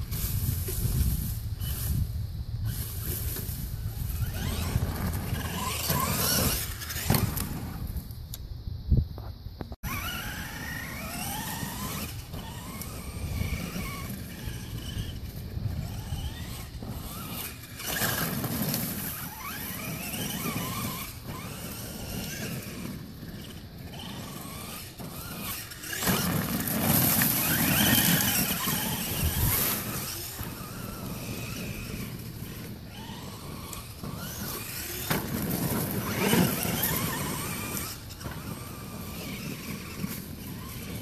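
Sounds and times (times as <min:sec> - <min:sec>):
rc truck motor whine: 0:00.0 - 0:41.0.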